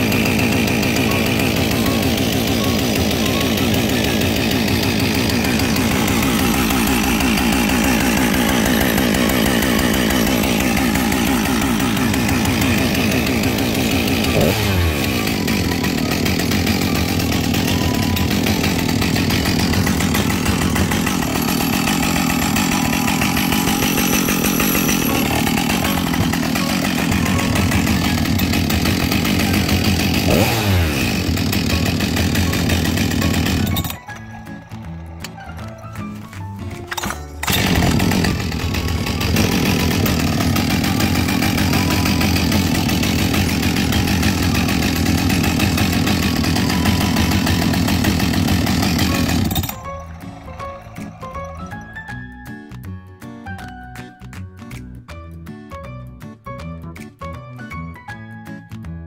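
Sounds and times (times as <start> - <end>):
chainsaw running: 0.0 - 52.9.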